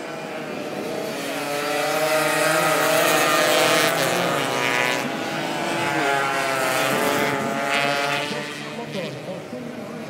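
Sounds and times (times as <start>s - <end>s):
motorcycles revving high: 0.0s - 10.0s.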